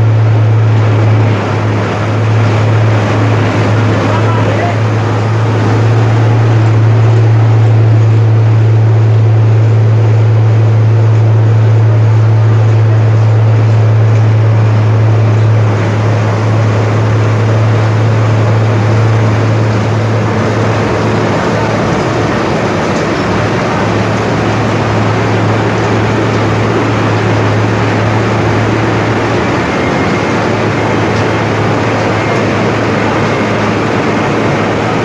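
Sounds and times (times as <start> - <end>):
milling machine droning: 0.0 - 35.0.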